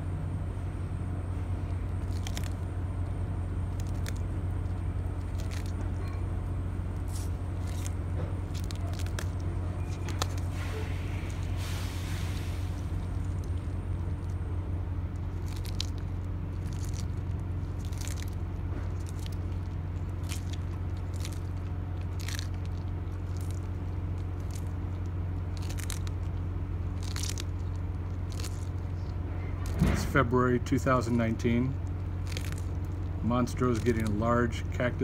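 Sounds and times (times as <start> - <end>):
steady low hum: 0.0 - 35.0
tortoise chewing cactus crunches: 0.0 - 35.0.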